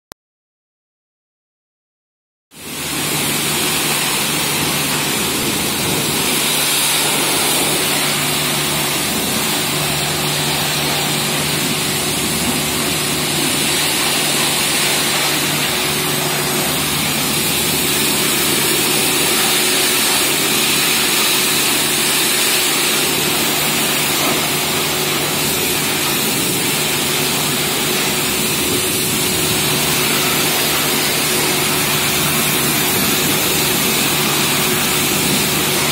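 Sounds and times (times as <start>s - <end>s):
pressure washer motor humming: 2.6s - 35.9s
water jet hissing on plastic: 2.6s - 35.9s.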